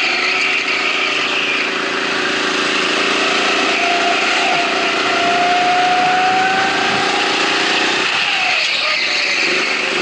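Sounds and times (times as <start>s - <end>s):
go-kart motor whining: 0.0s - 10.0s.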